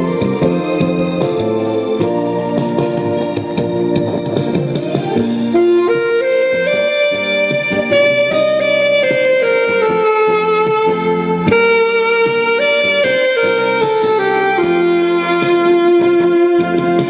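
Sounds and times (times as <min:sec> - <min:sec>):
alto saxophone ballad melody: 0:00.0 - 0:17.0
musical accompaniment: 0:00.0 - 0:17.0.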